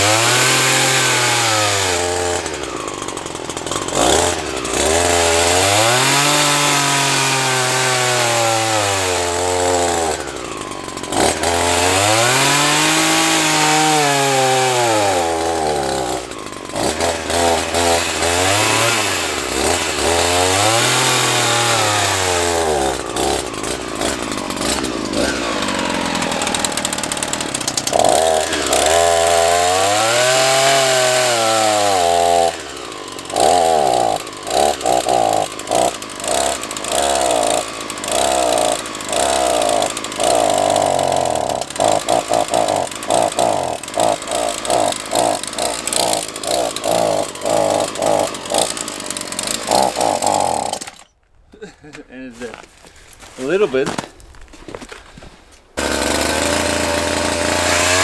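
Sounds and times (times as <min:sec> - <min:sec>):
chainsaw revving and stuttering: 0:00.0 - 0:51.1, 0:55.8 - 0:58.0.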